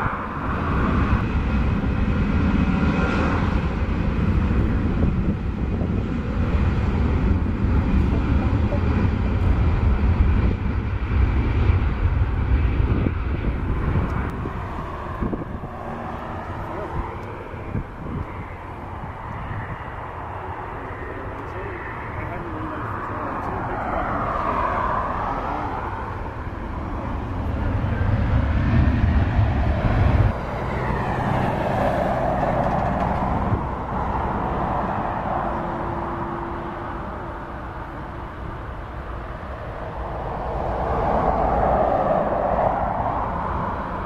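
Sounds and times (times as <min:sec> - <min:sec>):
jet engines taxiing: 0:00.0 - 0:44.0.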